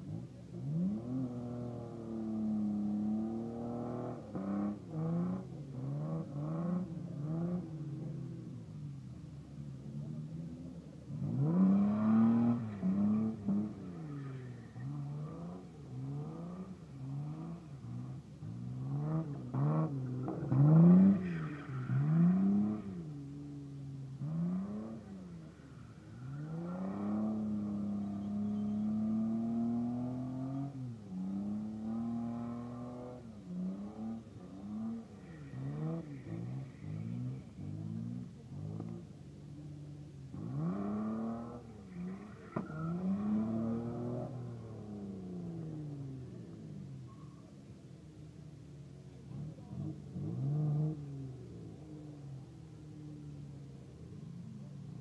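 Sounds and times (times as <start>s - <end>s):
car engine revving: 0.0s - 47.0s, 49.1s - 54.6s.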